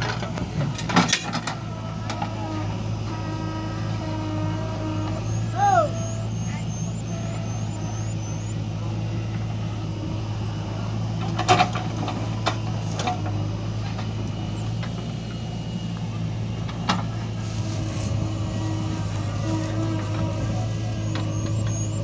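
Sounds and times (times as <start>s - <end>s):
diesel engines running: 0.0s - 22.0s.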